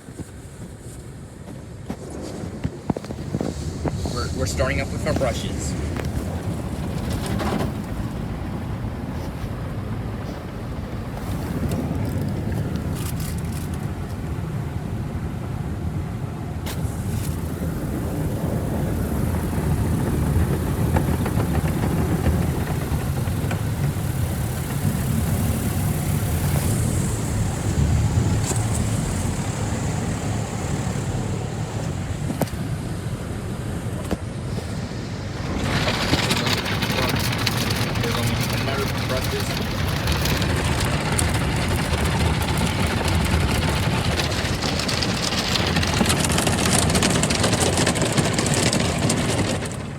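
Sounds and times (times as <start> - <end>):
car wash brushes scrubbing: 0.2 - 15.8, 16.6 - 49.9.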